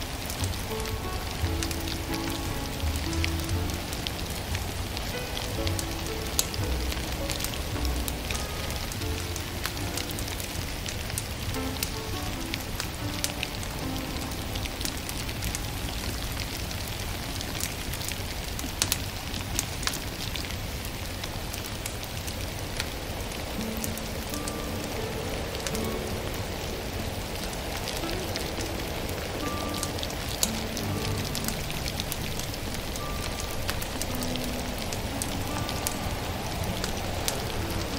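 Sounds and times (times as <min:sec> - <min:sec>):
soft sparse music: 0:00.0 - 0:37.9
steady hiss: 0:00.0 - 0:37.9
wood fire crackling and popping: 0:00.0 - 0:37.9.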